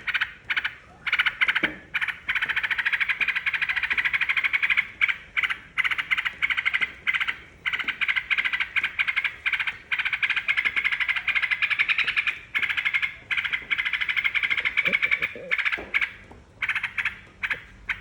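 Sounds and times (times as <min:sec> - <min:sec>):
bulbul chattering: 0:00.0 - 0:18.0.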